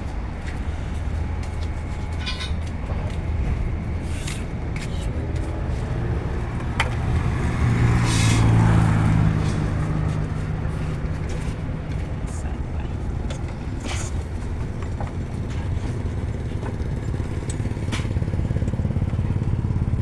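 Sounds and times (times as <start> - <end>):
car engine humming: 0.0 - 20.0.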